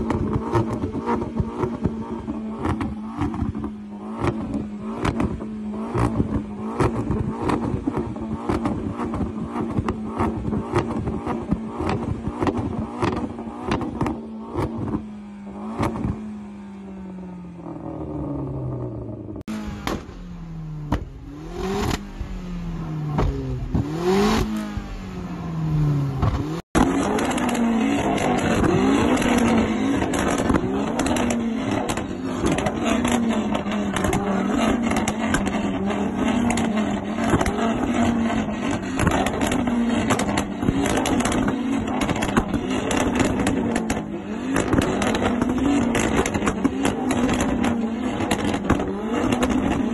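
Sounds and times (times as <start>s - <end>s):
car engine revving: 0.0s - 49.9s
exhaust bangs: 0.0s - 49.9s.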